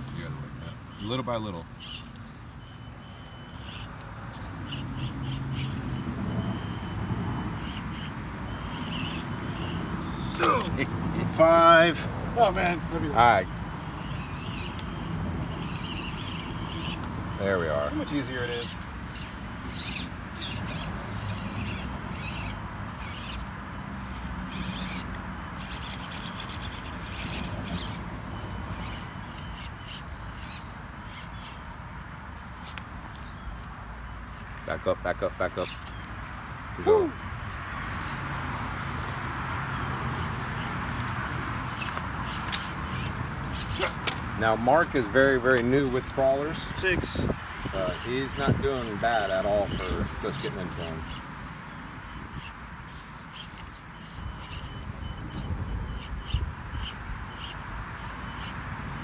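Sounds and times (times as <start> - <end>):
bird calling: 0.0 - 10.9, 12.4 - 31.8, 32.4 - 38.3, 39.5 - 58.6
toy crawler tires scraping: 0.9 - 36.5, 37.4 - 51.3, 52.1 - 59.0.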